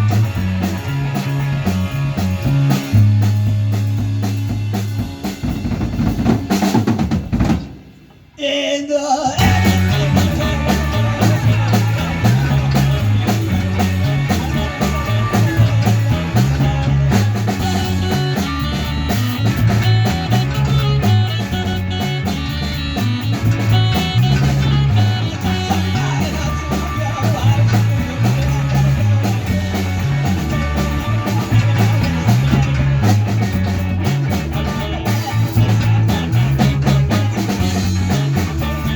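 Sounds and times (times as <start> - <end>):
bass guitar pattern: 0.0 - 6.8, 9.4 - 38.9
rock band playing: 0.0 - 8.3, 9.4 - 38.9.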